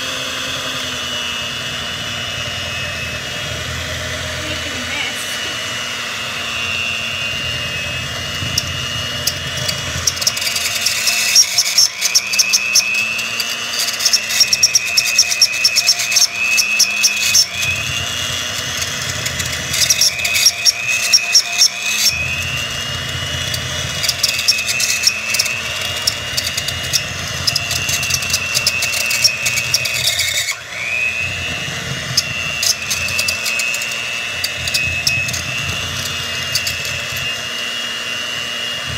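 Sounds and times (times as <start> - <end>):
electric hand mixer whining: 0.0 - 38.9
mixer beaters clattering: 0.0 - 38.9.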